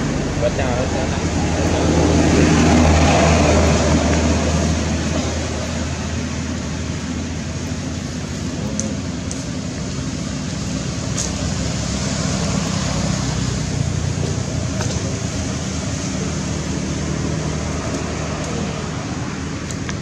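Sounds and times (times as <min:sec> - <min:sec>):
low rumble and hiss: 0:00.0 - 0:20.0.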